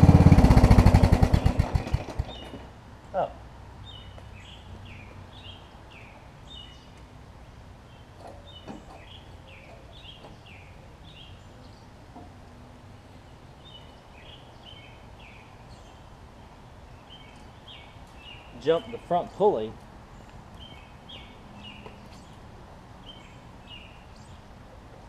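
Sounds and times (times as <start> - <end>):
songbird singing: 1.2 - 25.0.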